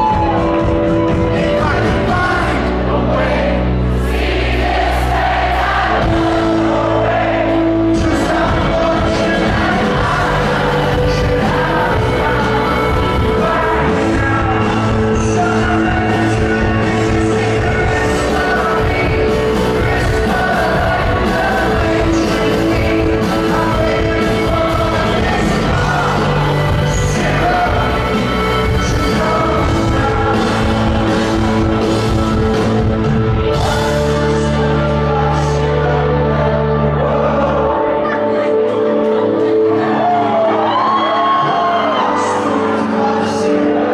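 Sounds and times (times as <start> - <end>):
lead singer: 0.0 - 43.9
live rock band playing: 0.0 - 43.9.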